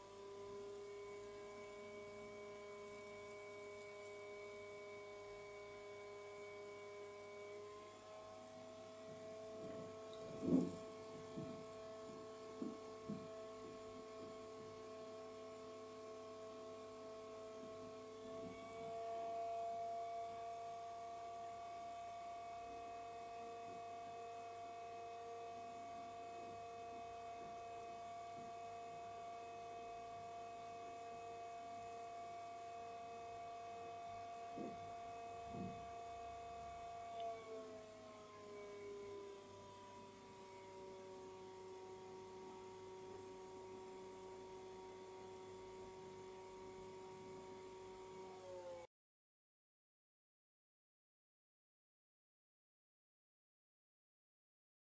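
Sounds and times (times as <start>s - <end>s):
liquid cooler pump whine: 0.0s - 48.9s.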